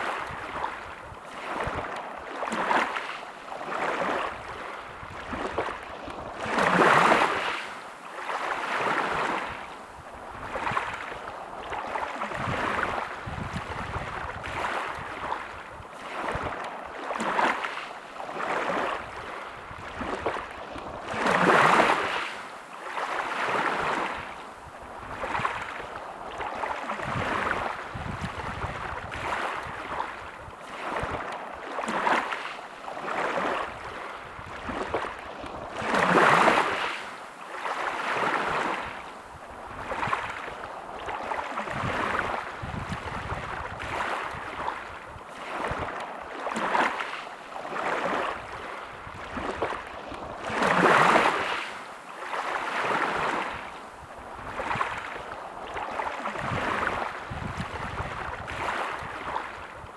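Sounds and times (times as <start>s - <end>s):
big waves breaking: 0.0s - 59.9s
sea waves washing onto shore: 0.0s - 59.9s.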